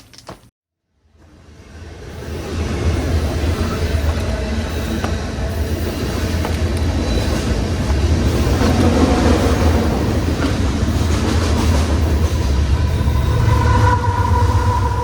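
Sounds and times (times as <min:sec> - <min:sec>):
freight train rumbling past: 0:01.2 - 0:15.0.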